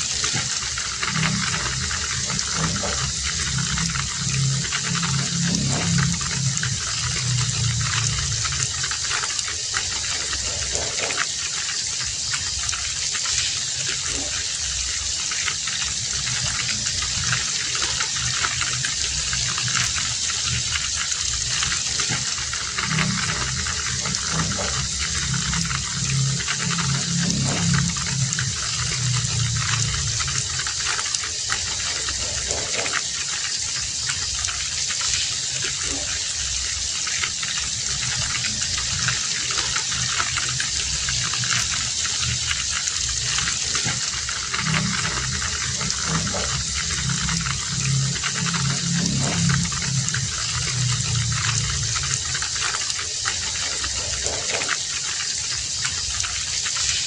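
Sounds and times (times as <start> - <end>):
low hum: 0.0 - 11.3, 13.8 - 33.1, 35.8 - 54.8
heavy rain hissing: 0.0 - 57.0.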